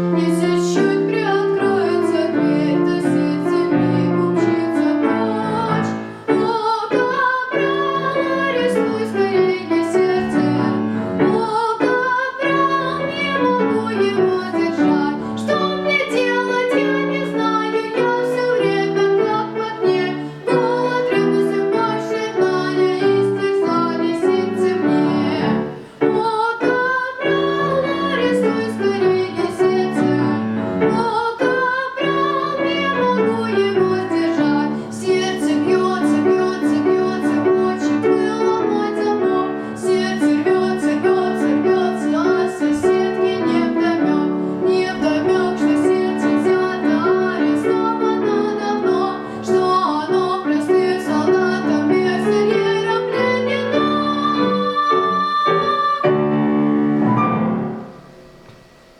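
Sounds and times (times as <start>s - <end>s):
person singing: 0.0s - 56.4s
piano accompaniment: 0.0s - 58.9s.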